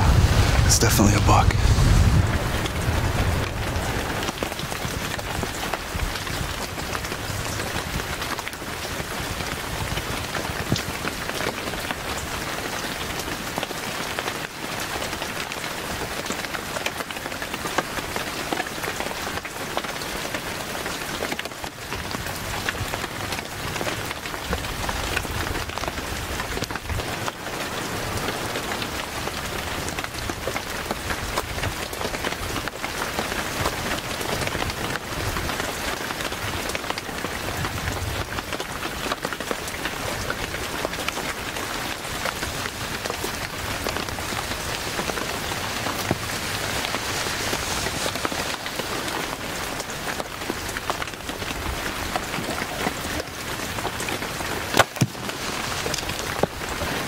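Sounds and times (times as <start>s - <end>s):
steady rain pattering: 0.0s - 57.0s.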